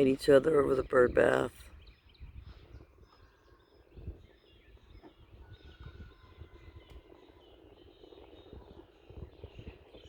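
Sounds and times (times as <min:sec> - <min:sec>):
small songbirds chirping: 0:00.0 - 0:10.0.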